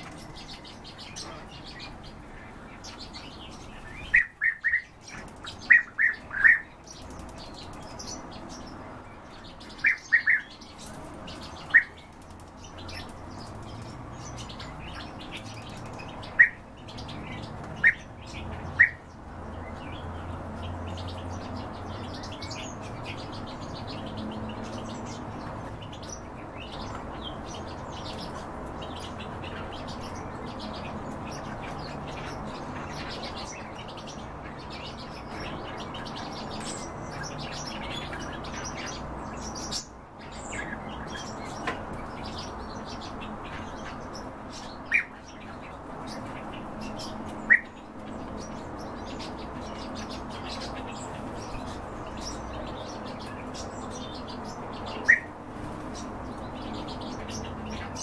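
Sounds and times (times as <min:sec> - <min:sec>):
loud sharp bird chirps: 0:00.0 - 0:20.2, 0:20.9 - 0:58.0
faint twitter of birds: 0:00.0 - 0:58.0.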